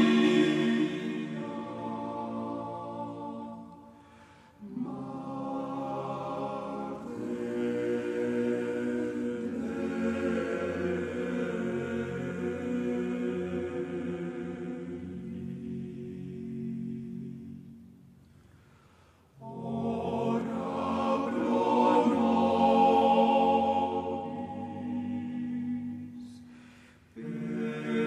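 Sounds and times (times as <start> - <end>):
choir singing sustained chords: 0.0 - 28.0.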